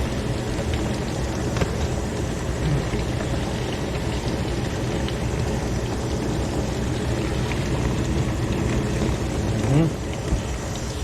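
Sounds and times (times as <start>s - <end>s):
dishwasher pump motor hum: 0.0s - 11.0s
water rushing and splashing: 0.0s - 11.0s.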